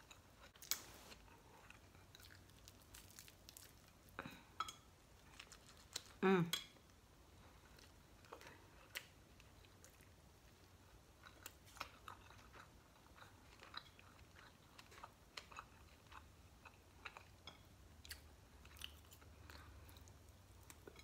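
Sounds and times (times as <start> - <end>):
person chewing crispy food: 0.0 - 6.2, 7.3 - 21.0.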